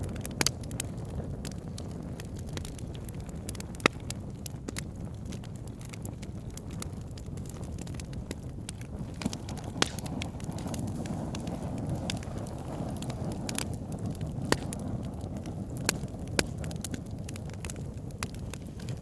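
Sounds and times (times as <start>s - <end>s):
burning wood crackling pops: 0.0s - 19.0s
campfire flames rustling: 0.0s - 19.0s.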